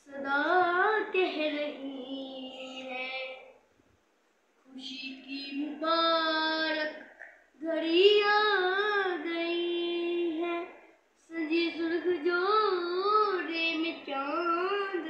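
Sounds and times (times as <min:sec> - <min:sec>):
child singing: 0:00.0 - 0:03.6, 0:04.7 - 0:15.0.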